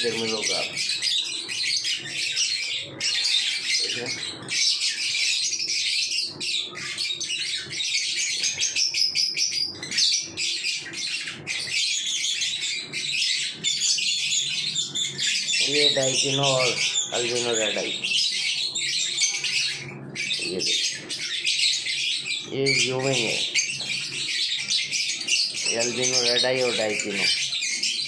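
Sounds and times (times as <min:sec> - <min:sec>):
lovebirds chattering: 0:00.0 - 0:28.0.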